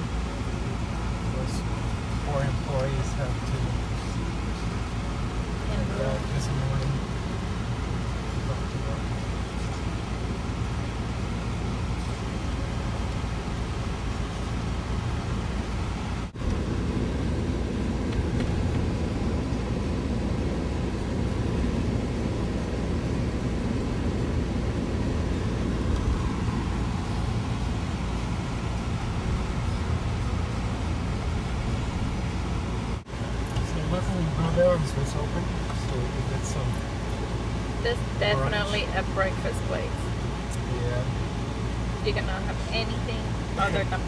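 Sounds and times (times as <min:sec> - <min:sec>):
vehicle engine and road rumble: 0:00.0 - 0:44.0.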